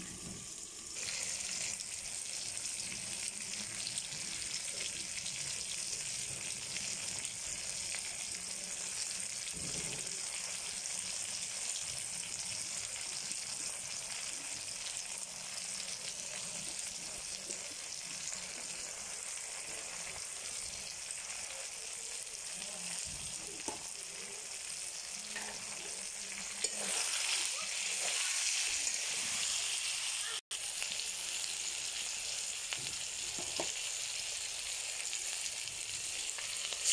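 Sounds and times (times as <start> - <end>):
food sizzling in oil: 0.0 - 36.9.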